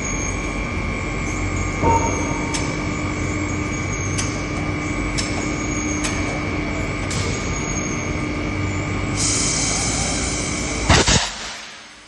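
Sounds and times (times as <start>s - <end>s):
industrial machine drone: 0.0s - 12.0s.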